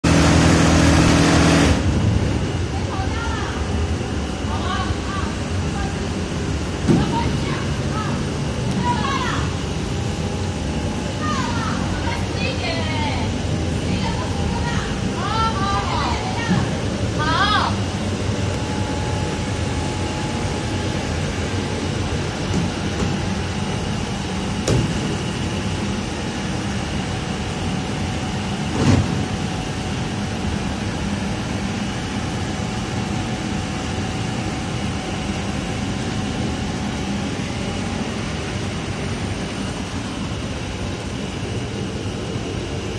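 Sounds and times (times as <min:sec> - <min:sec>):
cooling fans droning: 0:00.0 - 0:42.9
faint steady whine: 0:00.4 - 0:42.9.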